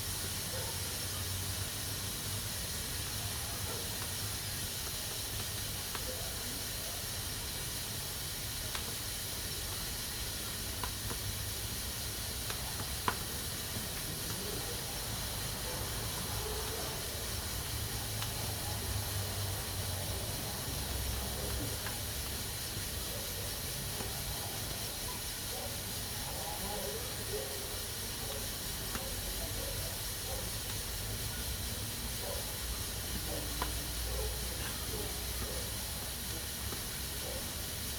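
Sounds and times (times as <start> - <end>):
pressure cooker hissing: 0.0 - 37.9.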